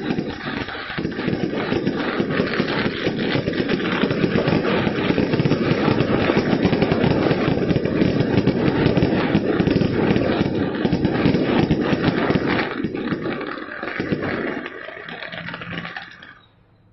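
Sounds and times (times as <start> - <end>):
firecrackers popping: 0.0 - 16.5.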